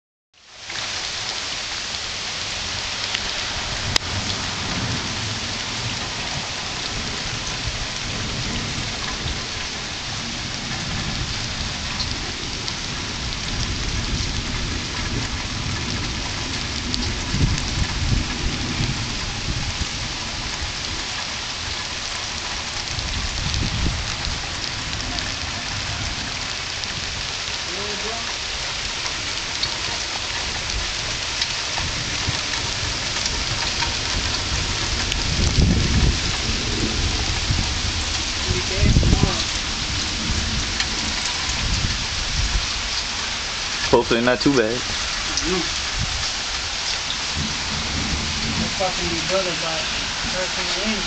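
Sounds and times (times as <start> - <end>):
steady rain falling: 0.4 - 51.0.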